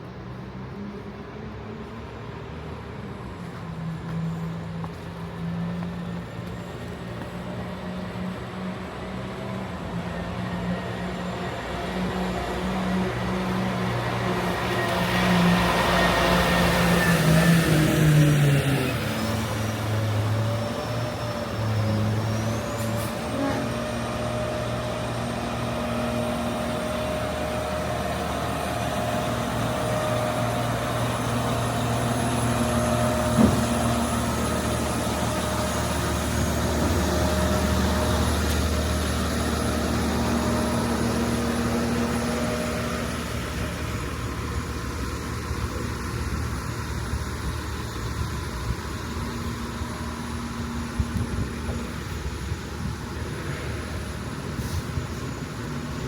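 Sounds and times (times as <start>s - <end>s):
truck and car engines: 0.0s - 56.0s.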